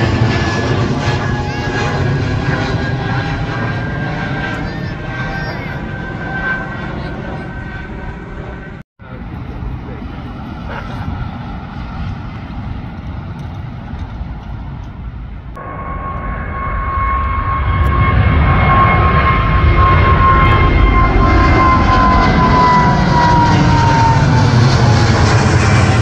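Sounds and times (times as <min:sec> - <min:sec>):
jet airliner rumble: 0:00.0 - 0:26.0
jet engine whine: 0:00.0 - 0:26.0.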